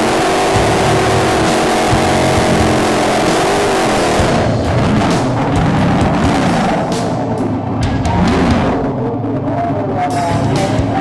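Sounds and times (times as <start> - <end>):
race car engine running hard: 0.0 - 11.0.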